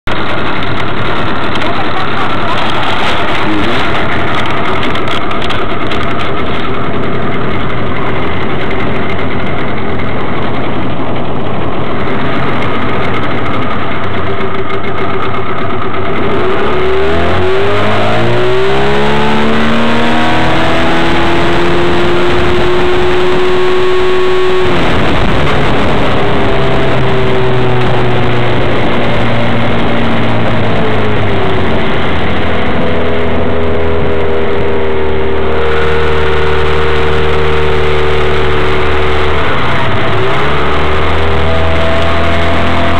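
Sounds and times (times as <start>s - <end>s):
outboard motor running: 0.1s - 42.9s.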